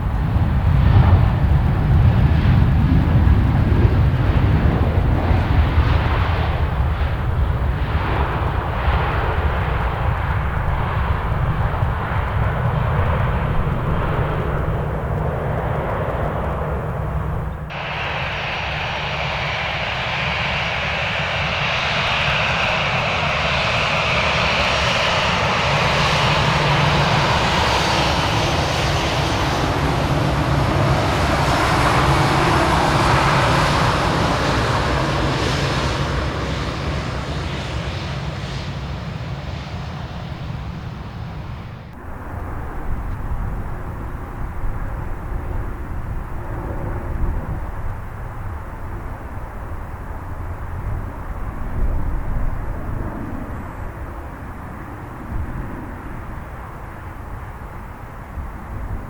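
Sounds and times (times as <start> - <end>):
high engine whine: 0.0 - 59.0
jet engines rumbling: 0.0 - 59.0.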